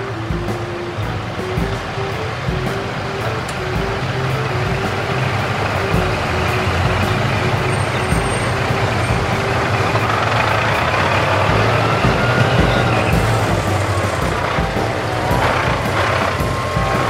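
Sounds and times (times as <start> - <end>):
heavy vehicle engine running: 0.0 - 17.0.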